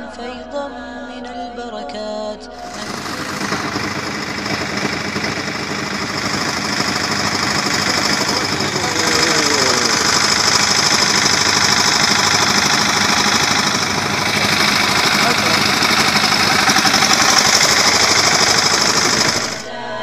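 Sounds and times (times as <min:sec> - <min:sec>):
engine knocking rattle: 0:02.6 - 0:19.8.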